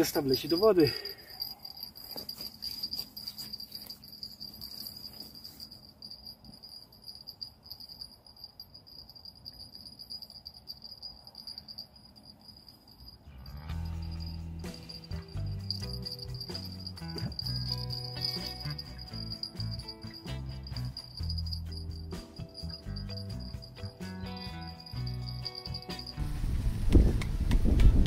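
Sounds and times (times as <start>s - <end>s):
insect trilling: 0.0s - 26.2s.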